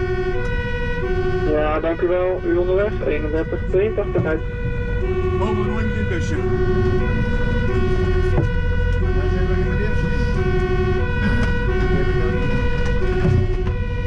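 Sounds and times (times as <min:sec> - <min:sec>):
fire engine two-tone siren: 0:00.0 - 0:14.0
truck engine rumble: 0:00.0 - 0:14.0.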